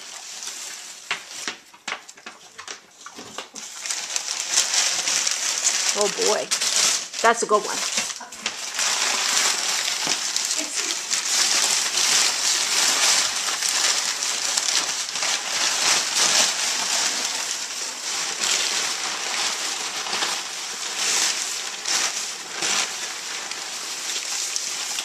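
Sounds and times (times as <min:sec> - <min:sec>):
packing paper crinkling and rustling: 0:00.0 - 0:25.0.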